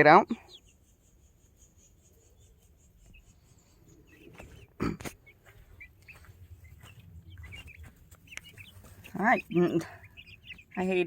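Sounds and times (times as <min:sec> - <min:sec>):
chicks chirping: 0:00.0 - 0:11.0.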